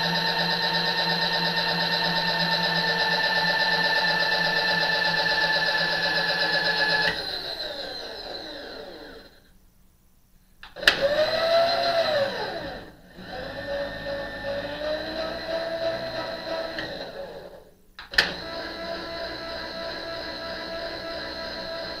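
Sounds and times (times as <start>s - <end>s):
mill spindle motor whine: 0.0s - 9.5s, 10.7s - 22.0s.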